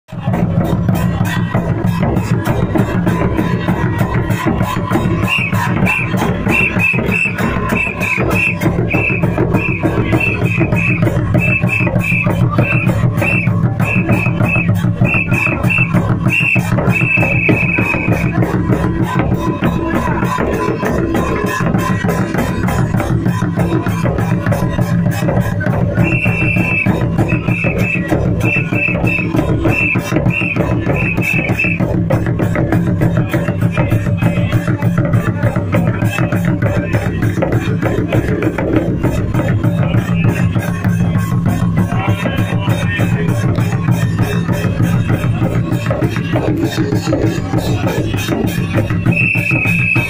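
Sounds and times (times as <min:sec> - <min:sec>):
folk instrument fast rhythm: 0:00.1 - 0:50.0.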